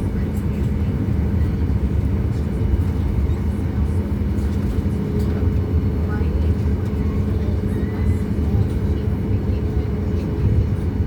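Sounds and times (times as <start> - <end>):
jet airliner rumble: 0.0 - 11.0.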